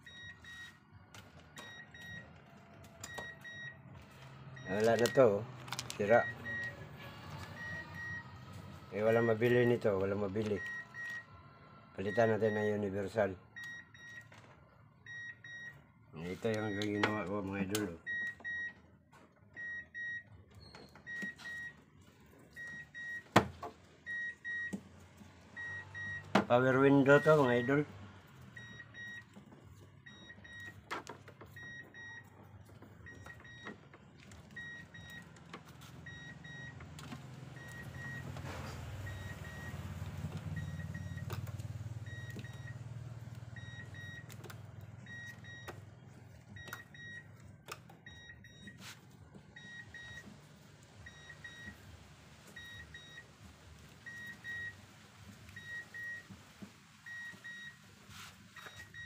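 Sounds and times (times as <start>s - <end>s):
car warning chime beeping: 0.0s - 2.4s, 3.0s - 18.9s, 19.5s - 21.9s, 22.5s - 23.4s, 24.0s - 24.8s, 25.5s - 51.9s, 52.5s - 53.4s, 54.0s - 54.8s, 55.5s - 56.3s, 57.0s - 59.0s.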